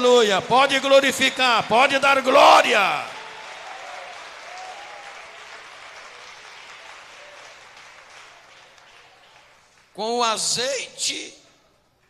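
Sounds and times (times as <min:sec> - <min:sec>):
congregation applauding: 0:00.0 - 0:10.6.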